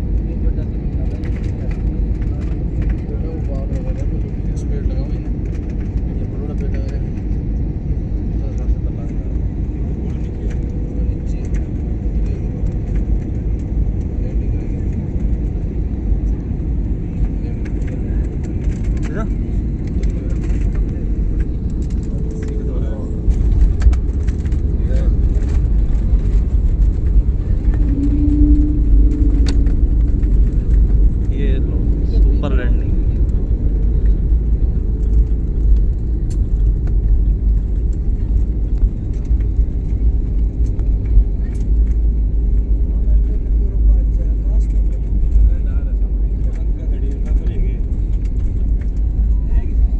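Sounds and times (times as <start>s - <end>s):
airliner cabin rumble: 0.0s - 49.9s
faint clicks and rattles: 0.2s - 49.9s.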